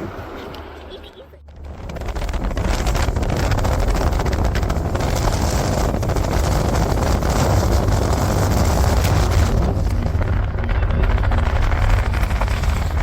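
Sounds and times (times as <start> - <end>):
dense crackling: 0.4 - 13.0
wind buffeting microphone: 1.4 - 13.0.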